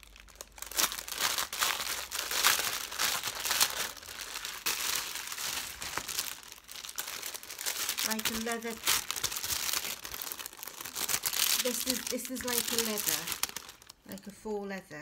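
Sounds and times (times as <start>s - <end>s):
plastic wrapping crinkling: 0.0s - 14.4s.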